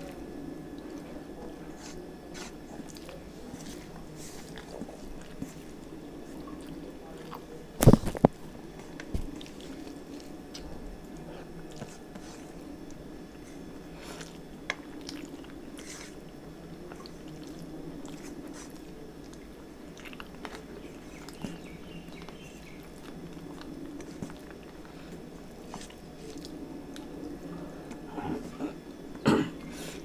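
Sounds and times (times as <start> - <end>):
chewing and wet mouth sounds: 0.0 - 16.2, 16.8 - 28.6.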